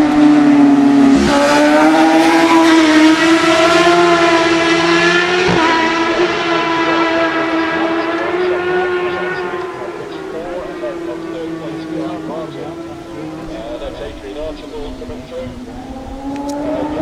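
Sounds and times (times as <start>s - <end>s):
motorcycle engine at high revs: 0.0s - 17.0s.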